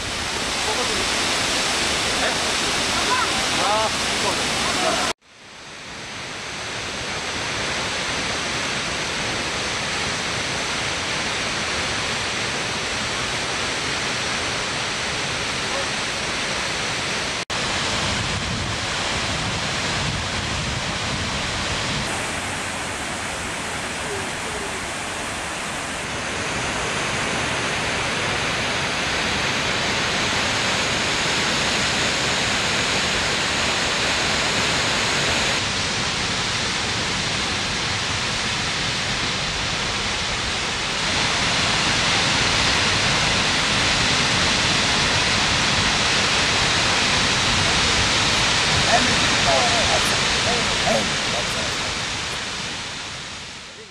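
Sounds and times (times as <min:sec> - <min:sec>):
waterfall rushing: 0:00.0 - 0:05.2, 0:05.8 - 0:53.9.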